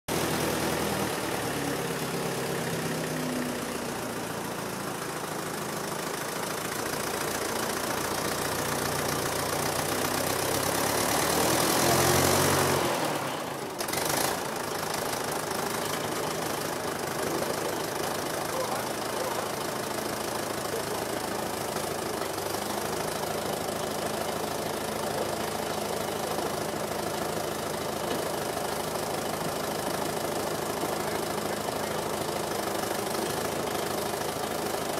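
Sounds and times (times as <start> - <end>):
tractor diesel engines clattering: 0.1 - 34.9.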